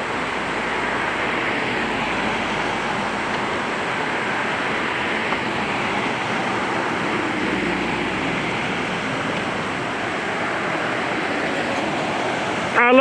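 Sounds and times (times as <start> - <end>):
outdoor rushing noise: 0.0 - 13.0.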